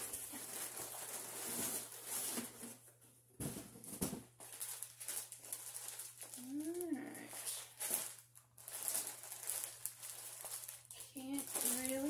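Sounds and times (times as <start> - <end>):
packing paper and plastic bag crinkling: 0.0 - 2.8, 3.4 - 12.0.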